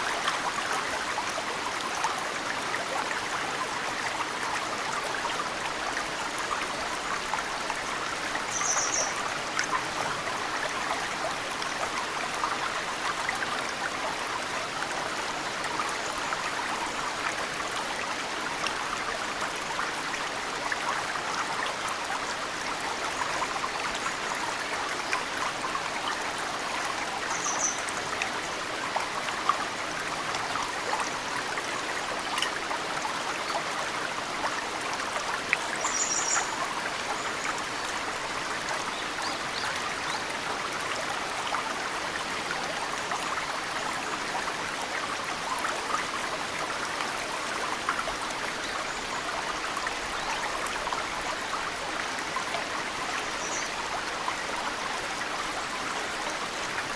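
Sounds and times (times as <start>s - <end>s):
stream running: 0.0s - 56.9s.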